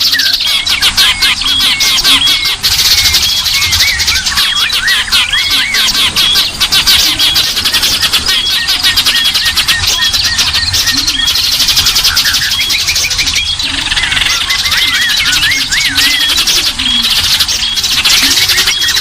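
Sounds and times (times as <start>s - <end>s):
chorus of small songbirds: 0.0s - 19.0s.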